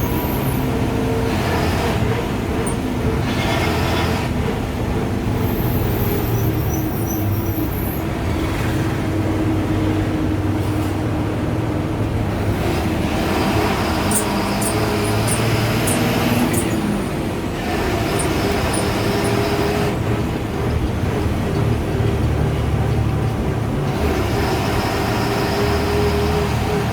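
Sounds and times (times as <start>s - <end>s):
diesel bus engine droning: 0.0s - 26.9s.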